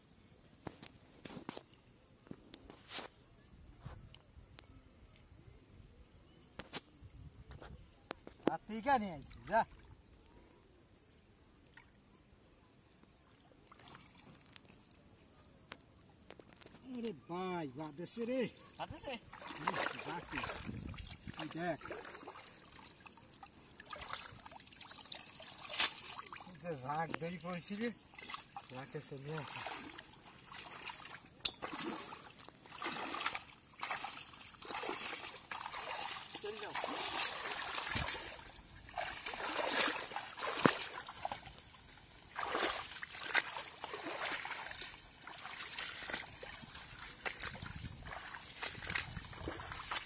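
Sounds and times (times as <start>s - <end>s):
faint water trickling: 0.2s - 50.0s
small water splashes: 8.1s - 50.0s.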